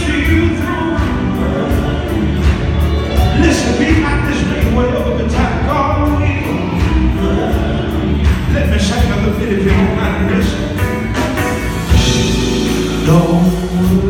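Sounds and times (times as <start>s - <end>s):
man singing into microphone: 0.0s - 2.6s, 3.2s - 11.0s, 11.9s - 14.0s
live gospel band playing: 0.0s - 14.0s.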